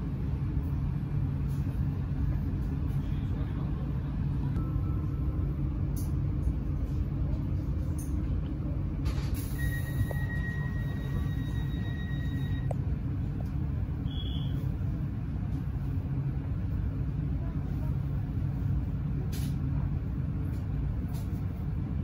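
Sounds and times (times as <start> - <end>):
train equipment idling rumble: 0.0 - 22.0.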